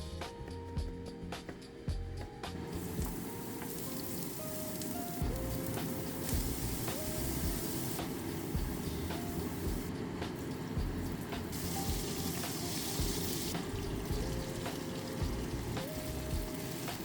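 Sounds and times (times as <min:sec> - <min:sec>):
music with held notes: 0:00.0 - 0:17.0
steady hiss: 0:00.0 - 0:17.0.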